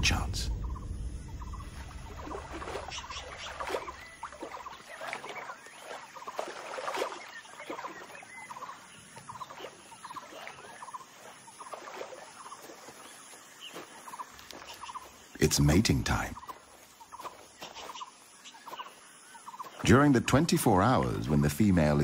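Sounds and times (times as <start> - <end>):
hooves splashing through water: 1.5 - 22.0.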